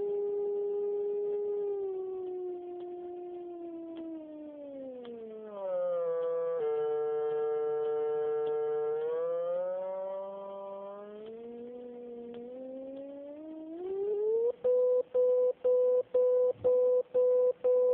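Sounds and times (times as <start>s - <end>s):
continuous electronic tone gliding: 0.0s - 16.6s.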